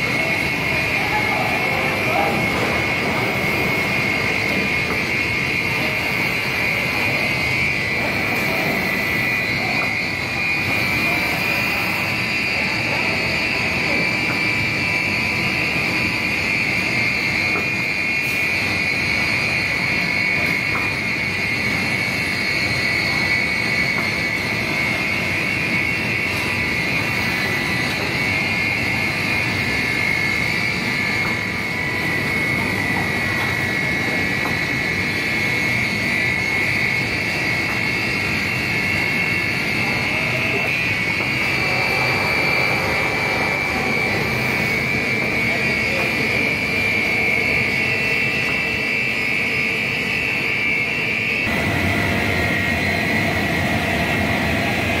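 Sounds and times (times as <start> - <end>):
high-pitched machine whine: 0.0 - 55.0
machinery hum: 0.0 - 55.0.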